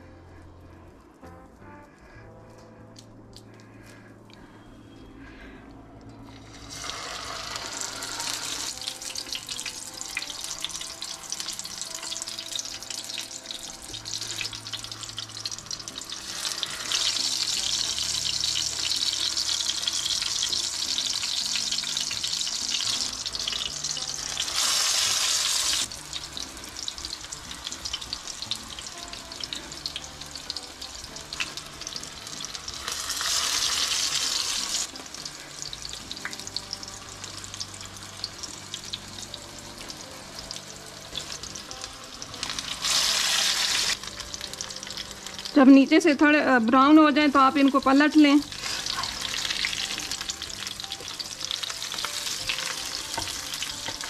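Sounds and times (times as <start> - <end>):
patties sizzling in hot oil: 6.3 - 54.0.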